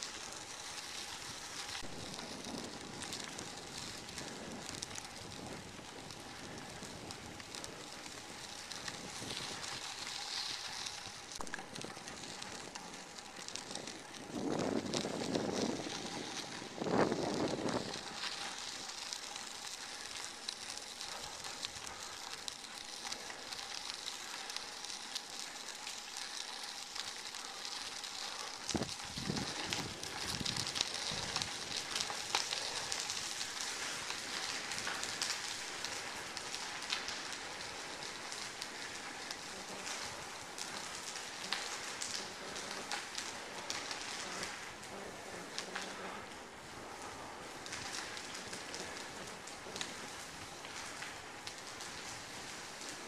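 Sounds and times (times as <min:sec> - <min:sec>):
bicycle tyres rolling on gravel: 0:00.0 - 0:53.0.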